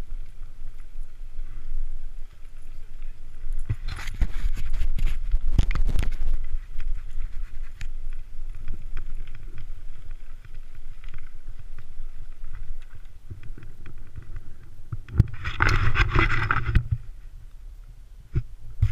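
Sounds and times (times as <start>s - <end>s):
small rattles and clicks: 0.0s - 17.1s
wind on camera: 0.0s - 18.9s.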